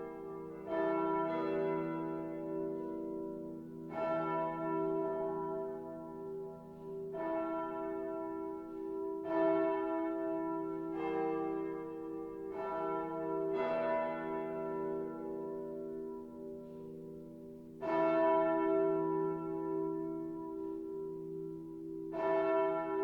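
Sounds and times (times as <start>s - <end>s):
church bells pealing: 0.0s - 23.0s.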